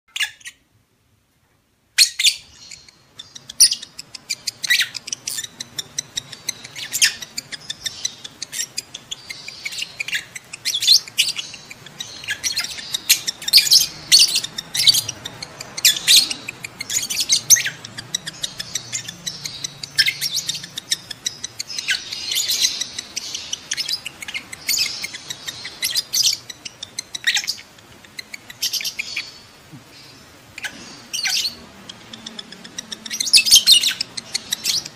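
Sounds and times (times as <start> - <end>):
lovebirds chirping and squawking: 0.1 - 0.7, 2.0 - 34.9.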